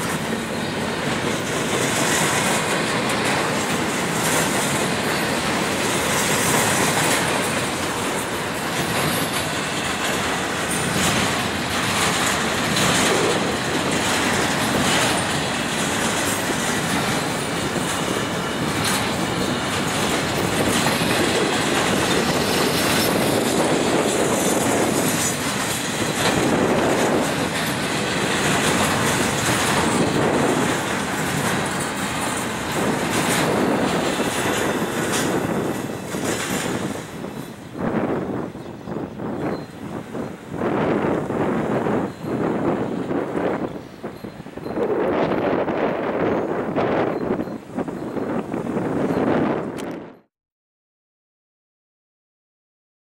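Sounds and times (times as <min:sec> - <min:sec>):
wheels clacking over rail joints: 0:00.0 - 0:50.2
freight train rolling past: 0:00.0 - 0:50.3.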